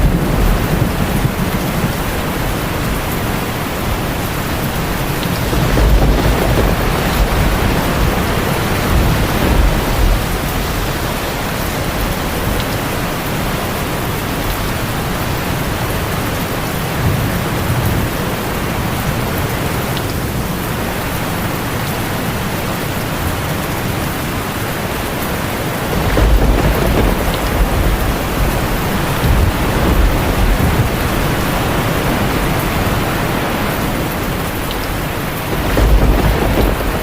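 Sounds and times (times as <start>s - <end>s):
thunder rolling: 0.0s - 19.4s, 24.9s - 37.0s
heavy rain on a tin roof: 0.0s - 37.0s.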